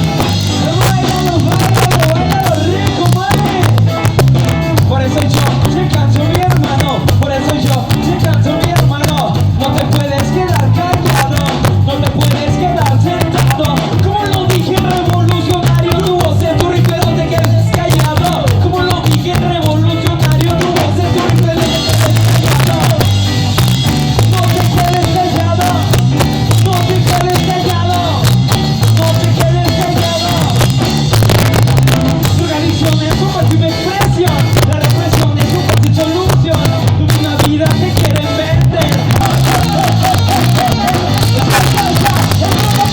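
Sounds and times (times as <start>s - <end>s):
person singing: 0.0s - 42.9s
ska band playing live: 0.0s - 42.9s.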